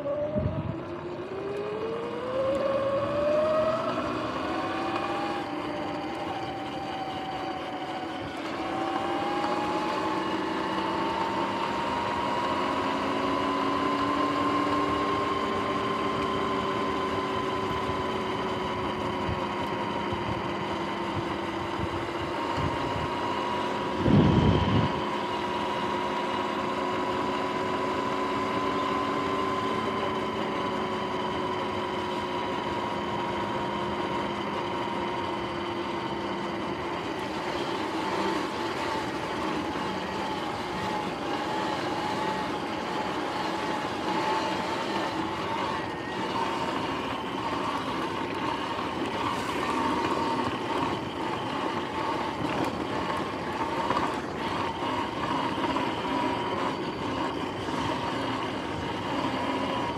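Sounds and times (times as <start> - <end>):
electric dirt bike motor whine: 0.0 - 59.9.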